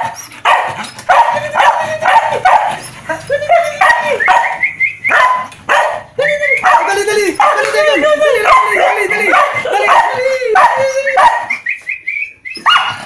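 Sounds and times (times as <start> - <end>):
dog barking: 0.0 - 2.8, 3.5 - 7.7, 8.4 - 11.6, 12.6 - 13.0
dog yipping: 0.0 - 7.7, 8.4 - 11.7, 12.5 - 13.0.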